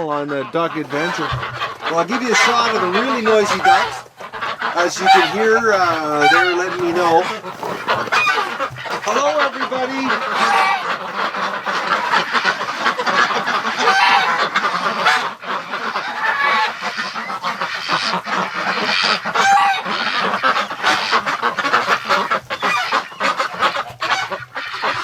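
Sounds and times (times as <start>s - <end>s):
ducks quacking: 0.0s - 25.0s
geese honking: 0.0s - 25.0s.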